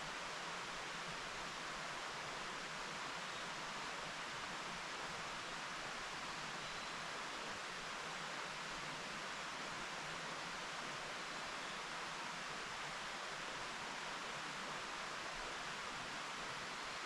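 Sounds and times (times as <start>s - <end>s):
mountain stream running: 0.0s - 17.0s.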